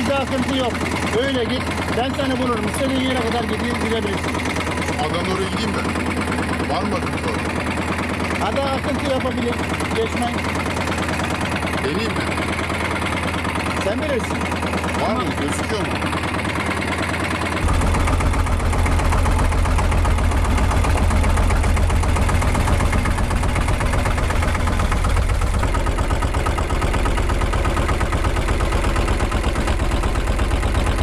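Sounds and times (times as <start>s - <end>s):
boat engine throbbing: 0.0s - 31.0s.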